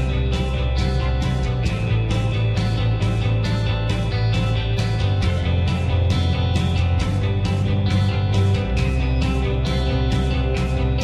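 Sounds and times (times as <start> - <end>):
guitar strumming: 0.0 - 11.0
sustained bass: 0.0 - 11.0.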